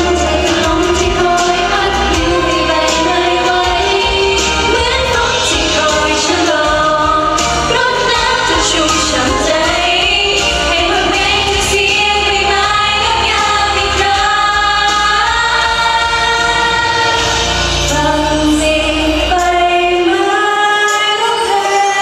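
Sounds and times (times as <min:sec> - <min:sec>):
pop backing track: 0:00.0 - 0:22.0
woman singing into microphone: 0:00.0 - 0:22.0.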